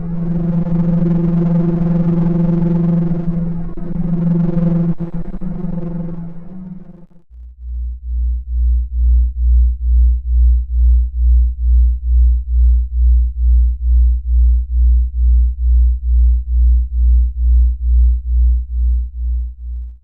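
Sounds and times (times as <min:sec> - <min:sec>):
low pulsing electronic hum: 0:00.0 - 0:20.0.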